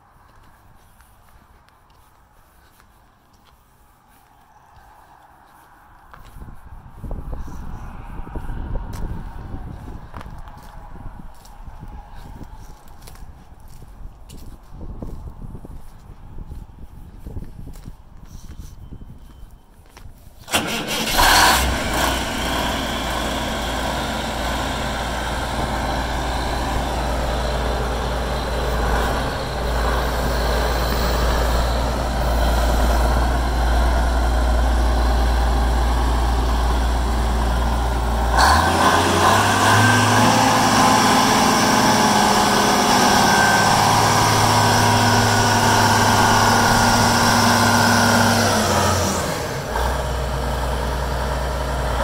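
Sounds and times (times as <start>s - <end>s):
diesel tractor engine running: 6.0s - 52.0s.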